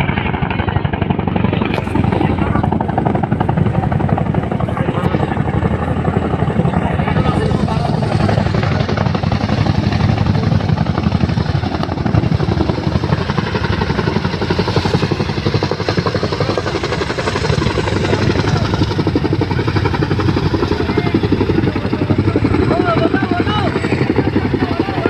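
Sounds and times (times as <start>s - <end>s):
helicopter rotors chopping: 0.0s - 25.0s.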